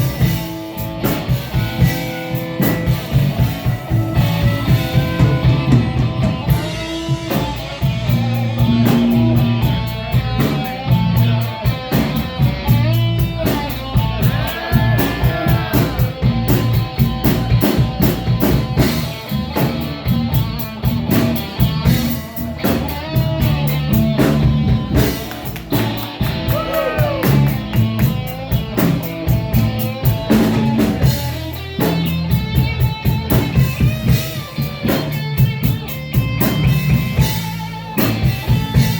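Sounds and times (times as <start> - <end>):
drum kit: 0.0 - 38.9
electric guitar lead: 0.0 - 38.9.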